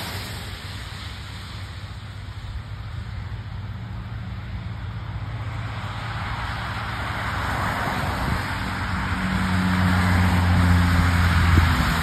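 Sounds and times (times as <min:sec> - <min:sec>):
low car engine hum: 0:00.0 - 0:12.0
tyres hissing on wet road: 0:00.0 - 0:12.0.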